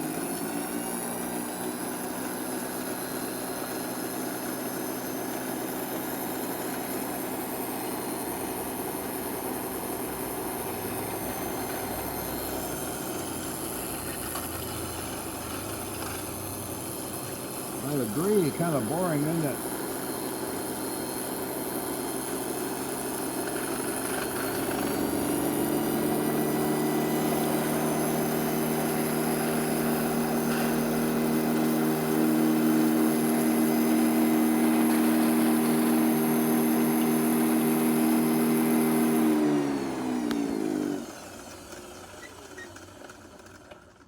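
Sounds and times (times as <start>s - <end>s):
lathe motor hum and whine: 0.0s - 43.5s.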